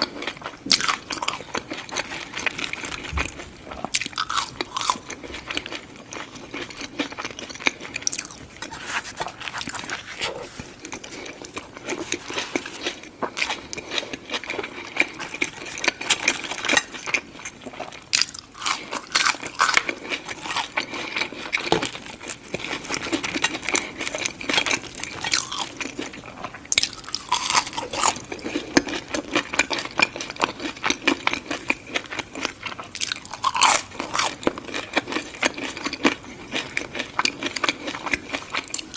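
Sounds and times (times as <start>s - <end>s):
crunching and chewing food: 0.0s - 38.9s.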